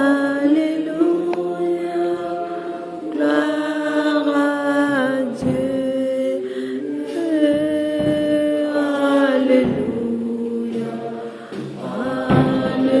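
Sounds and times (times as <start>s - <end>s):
congregation singing a hymn: 0.0s - 13.0s.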